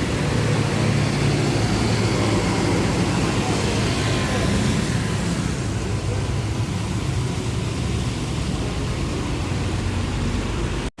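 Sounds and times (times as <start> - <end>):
bus engine rumbling: 0.0 - 10.9
tyres hissing on wet road: 0.0 - 10.9.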